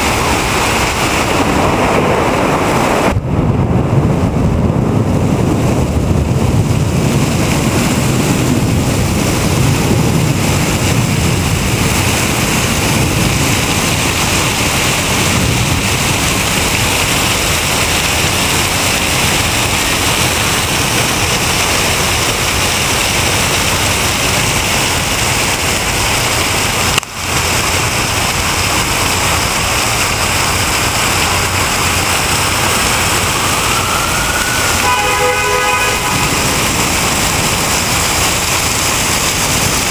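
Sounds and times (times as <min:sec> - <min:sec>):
water pouring off a building: 0:00.0 - 0:39.9.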